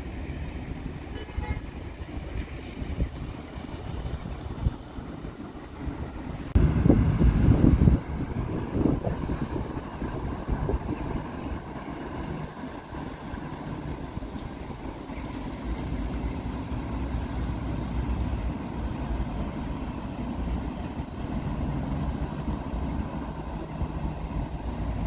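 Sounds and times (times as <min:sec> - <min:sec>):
faint engine hum: 0:00.0 - 0:25.0
road traffic rumble: 0:00.0 - 0:25.0.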